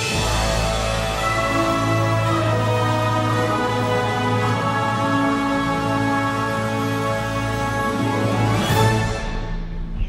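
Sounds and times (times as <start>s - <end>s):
sustained orchestral chord: 0.0s - 9.7s.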